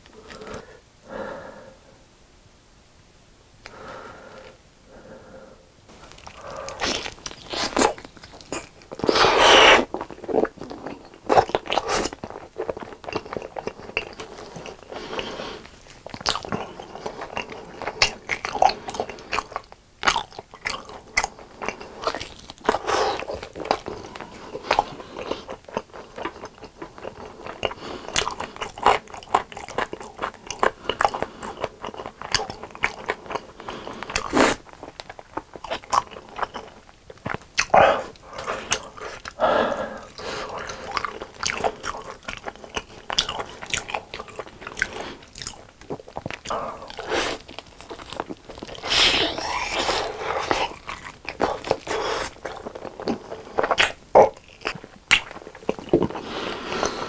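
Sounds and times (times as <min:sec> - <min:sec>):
chewing: 0:05.9 - 0:57.0.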